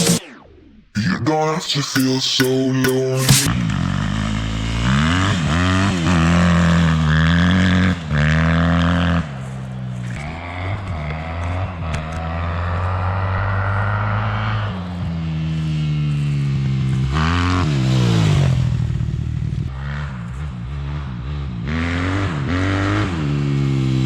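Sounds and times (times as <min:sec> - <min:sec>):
motorcycle engine revving: 0:03.2 - 0:24.0.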